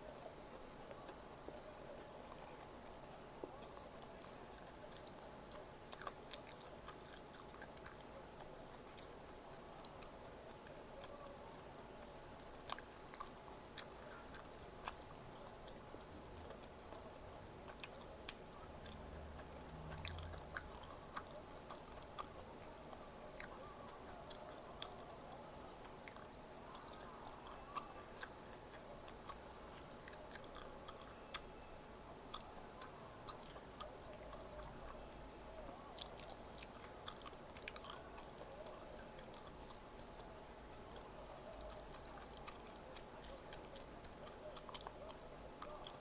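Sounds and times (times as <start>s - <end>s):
person chewing food: 0.0s - 11.4s, 12.0s - 46.0s.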